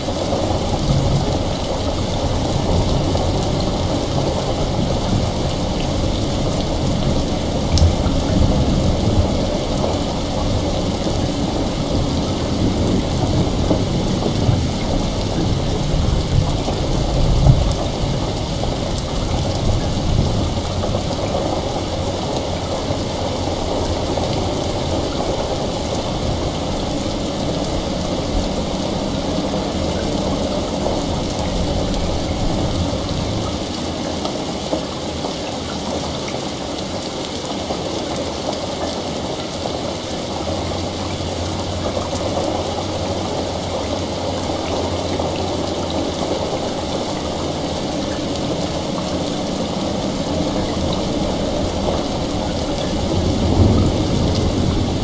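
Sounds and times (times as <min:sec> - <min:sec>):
distant rolling thunder: 0:00.0 - 0:34.2, 0:38.4 - 0:55.0
heavy rain: 0:00.0 - 0:55.0.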